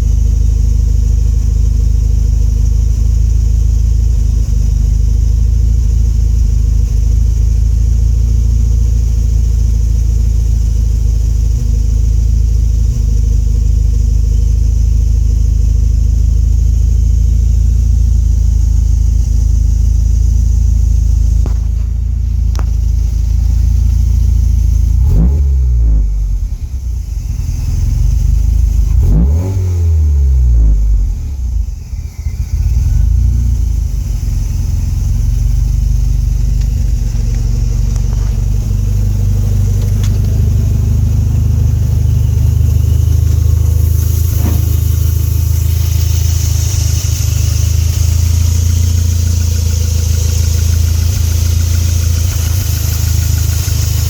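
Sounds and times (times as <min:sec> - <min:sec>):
car engine rough idle and revving: 0:00.0 - 0:54.0.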